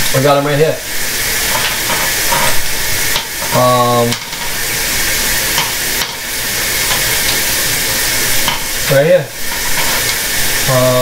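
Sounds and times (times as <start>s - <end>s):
steady hissing: 0.0s - 11.0s.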